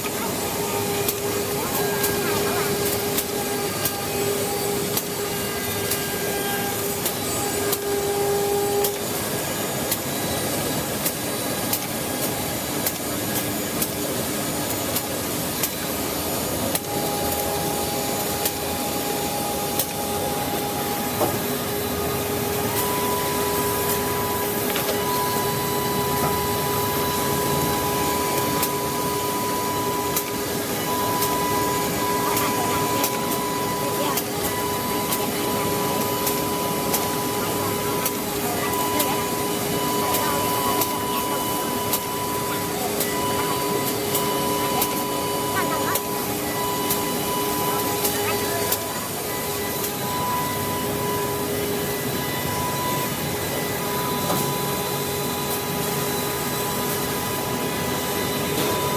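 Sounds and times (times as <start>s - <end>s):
drilling machine running: 0.0s - 58.9s
machine whining tones: 0.0s - 58.9s.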